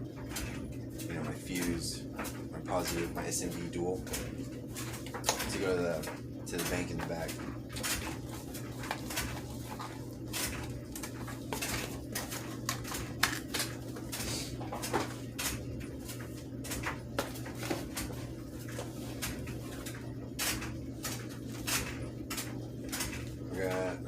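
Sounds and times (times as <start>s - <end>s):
clicks taps and rustles: 0.0s - 24.0s
low electrical hum: 0.0s - 24.0s.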